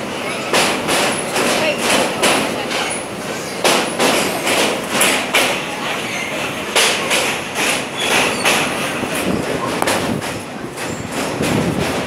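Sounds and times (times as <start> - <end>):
train clatter and rumble on bridge: 0.0 - 12.0.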